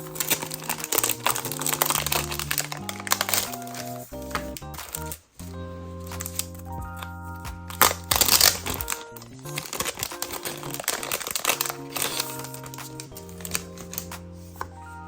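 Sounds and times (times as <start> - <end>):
paper and plastic crinkling: 0.0 - 5.3, 6.0 - 14.8
background music: 0.0 - 15.0.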